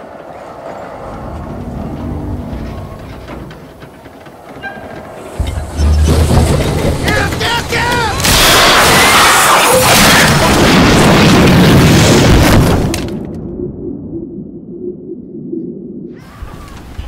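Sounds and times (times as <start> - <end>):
deep rumble with squealing: 0.0 - 17.0.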